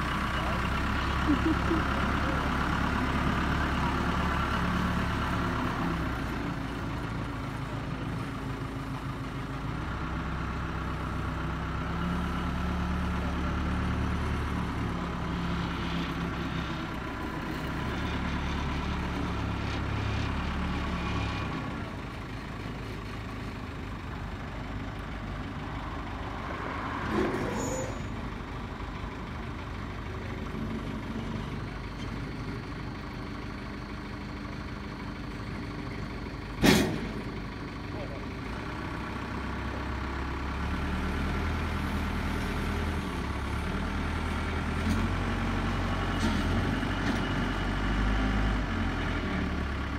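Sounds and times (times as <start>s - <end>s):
backhoe diesel engine running: 0.0s - 49.9s.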